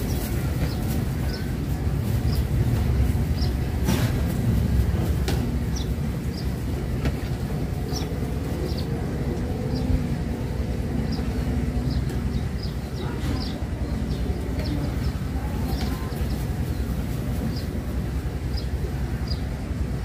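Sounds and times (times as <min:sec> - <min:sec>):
faint engine hum: 0:00.0 - 0:20.0
small birds chirping: 0:00.0 - 0:20.0
steady low rumble: 0:00.0 - 0:20.0.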